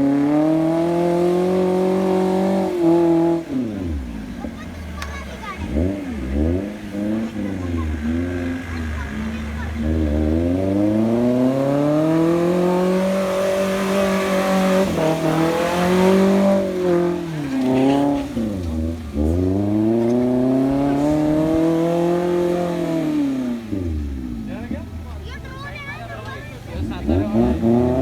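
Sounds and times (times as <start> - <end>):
engine revving hard: 0.0 - 28.0.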